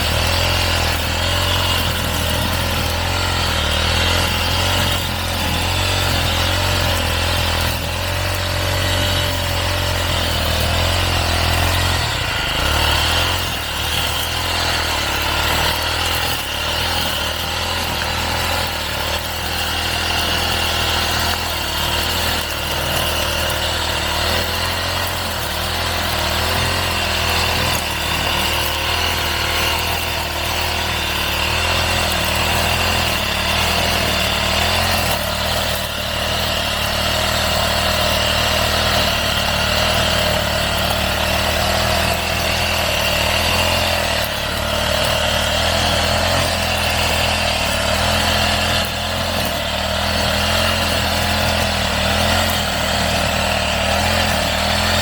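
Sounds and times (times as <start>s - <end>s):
brush cutter cutting grass: 0.0s - 55.0s.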